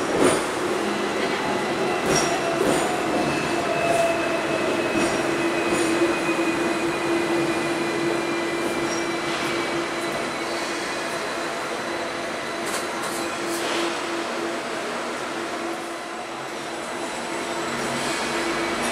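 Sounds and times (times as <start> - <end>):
tram wheels rumbling on rail: 0.0 - 18.9.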